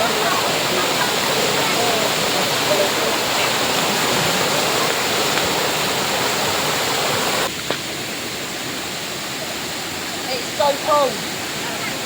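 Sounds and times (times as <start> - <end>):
flowing stream water: 0.0 - 12.0.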